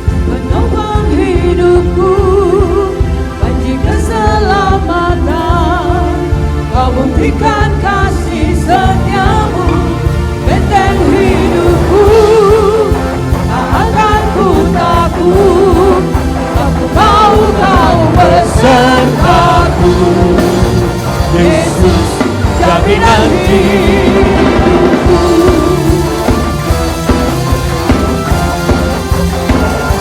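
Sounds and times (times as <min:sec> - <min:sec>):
bass and drums: 0:00.0 - 0:30.0.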